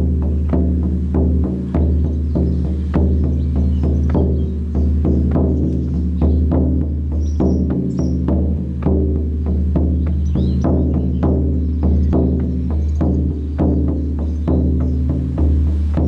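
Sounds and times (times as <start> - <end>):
frame drum booming: 0.0 - 16.0.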